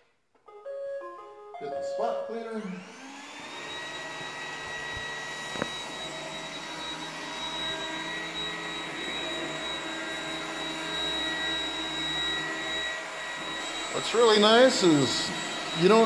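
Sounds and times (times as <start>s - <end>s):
robot vacuum running: 2.6s - 16.0s.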